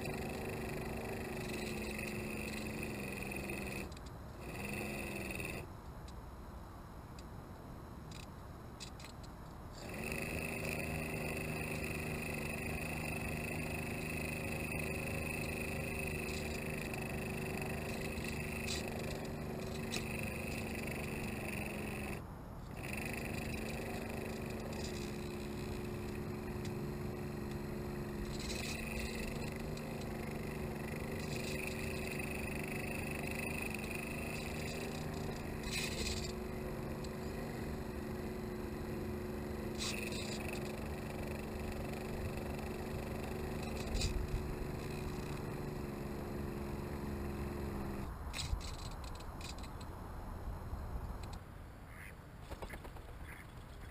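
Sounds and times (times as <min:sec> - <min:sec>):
small electric motor buzzing: 0:00.0 - 0:05.7, 0:08.0 - 0:50.0.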